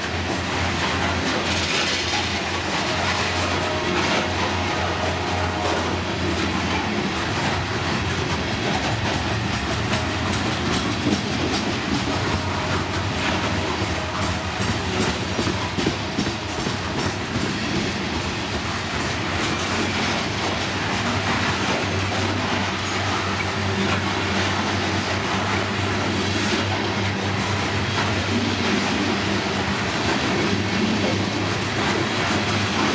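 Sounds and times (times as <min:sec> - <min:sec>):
train cars rumbling past: 0:00.0 - 0:32.9
wheels clacking over rail joints: 0:00.0 - 0:32.9.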